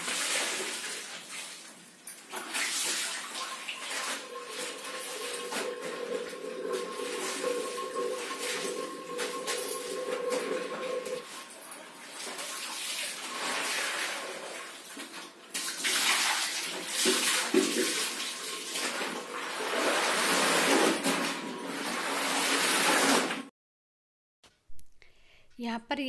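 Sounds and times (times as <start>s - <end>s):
water sloshing and splashing: 0.0s - 23.4s
clothes wrung in tub of water: 0.0s - 23.5s.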